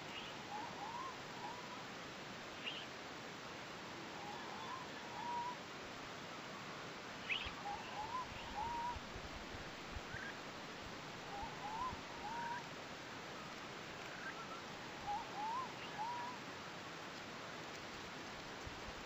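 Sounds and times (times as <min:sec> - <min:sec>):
steady ambient hiss: 0:00.0 - 0:19.0.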